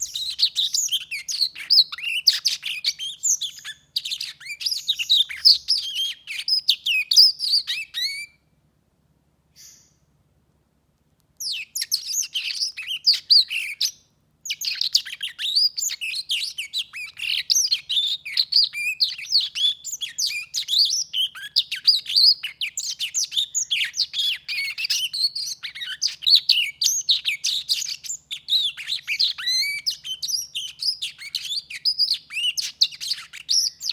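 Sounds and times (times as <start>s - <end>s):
bird singing warbling song: 0.0s - 8.4s, 9.6s - 10.1s, 11.4s - 33.9s.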